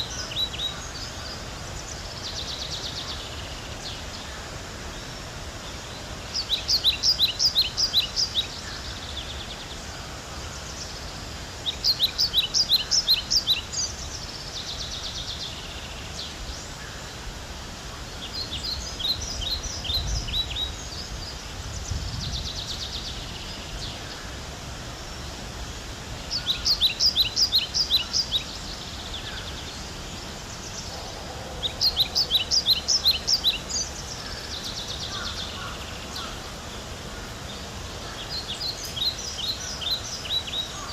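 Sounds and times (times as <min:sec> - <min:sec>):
small songbird singing: 0:00.0 - 0:09.8, 0:10.4 - 0:16.9, 0:18.1 - 0:24.4, 0:25.0 - 0:40.9.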